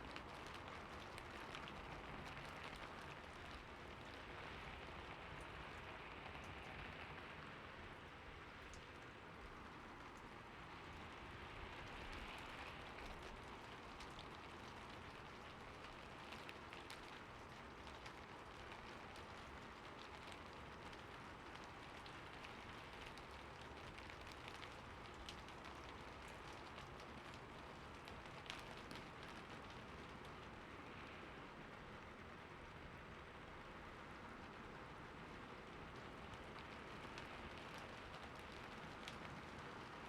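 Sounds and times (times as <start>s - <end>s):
soft rain: 0.0s - 40.0s.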